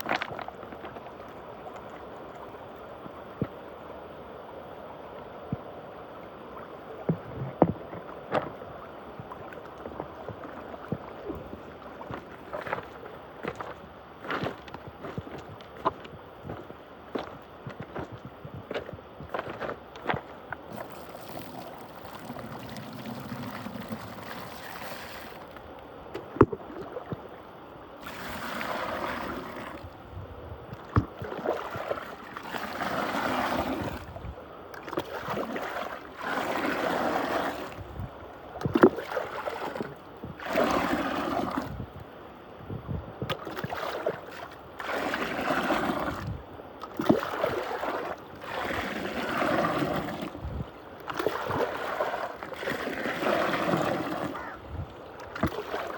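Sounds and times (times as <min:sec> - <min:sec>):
water swirling and gurgling: 0:00.0 - 0:55.9.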